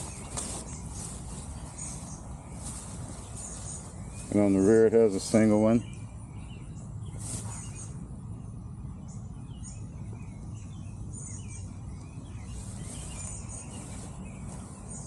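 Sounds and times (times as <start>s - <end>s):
birds chirping: 0.0s - 15.0s
low background hum: 0.0s - 15.0s.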